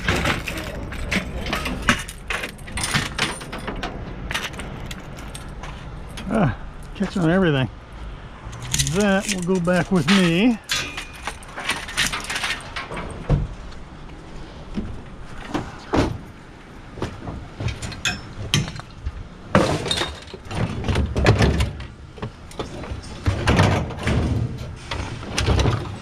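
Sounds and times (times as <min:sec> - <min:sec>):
scrap metal clanking and rattling: 0:00.0 - 0:07.6, 0:08.5 - 0:26.0.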